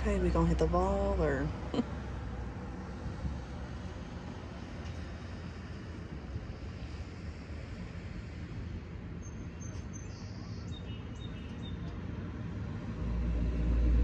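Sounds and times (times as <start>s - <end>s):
low rumble of wind: 0.0s - 14.0s.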